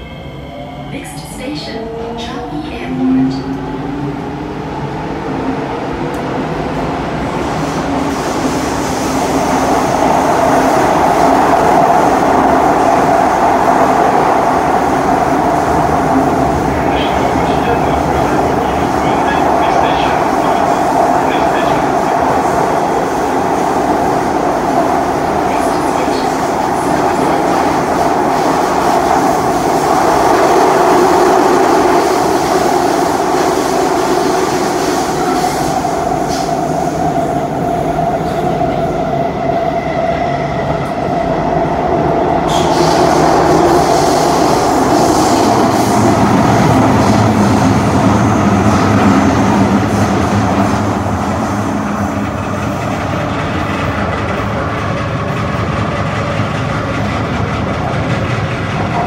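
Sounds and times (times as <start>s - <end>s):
train wheels rumbling on rail: 1.6s - 59.0s.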